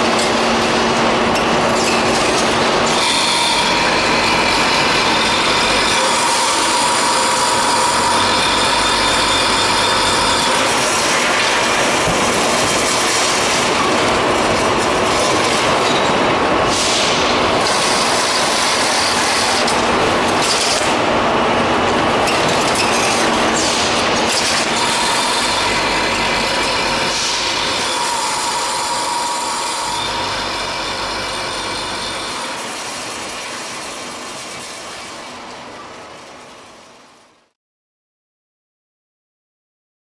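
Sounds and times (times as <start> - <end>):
packaging machinery running: 0.0 - 37.4.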